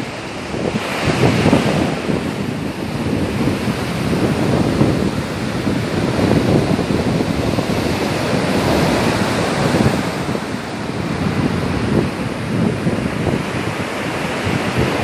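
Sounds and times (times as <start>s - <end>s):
surf breaking on sand: 0.0s - 15.0s.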